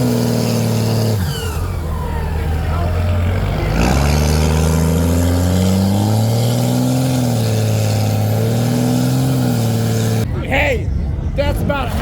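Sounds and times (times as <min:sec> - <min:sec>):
engine revving during burnout: 0:00.0 - 0:10.2.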